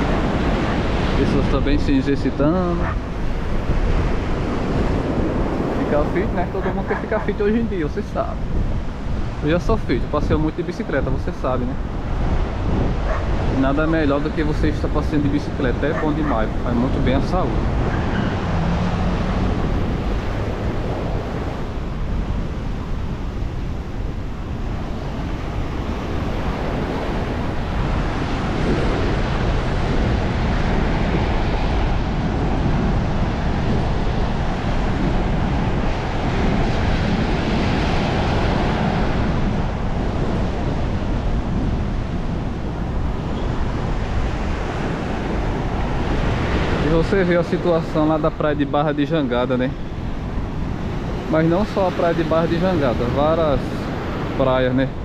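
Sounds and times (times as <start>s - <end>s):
surf breaking on beach: 0.0s - 55.0s
wind buffeting microphone: 0.0s - 55.0s.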